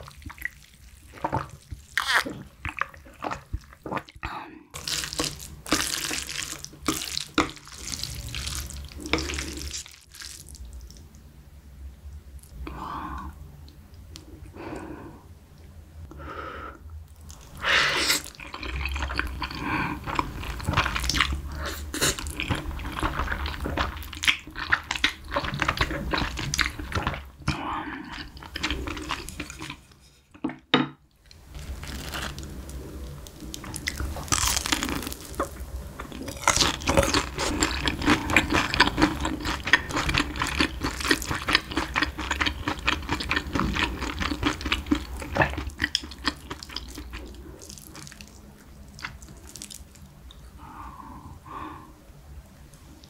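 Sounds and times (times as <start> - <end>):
wet chewing of noodles: 0.0 - 11.0, 17.1 - 30.4, 31.2 - 51.6.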